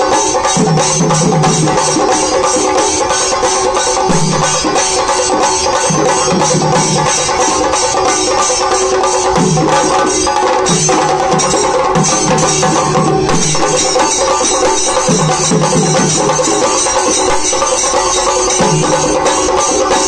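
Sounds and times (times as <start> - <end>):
drums beaten with sticks: 0.0 - 20.0
steady ringing: 0.0 - 20.0.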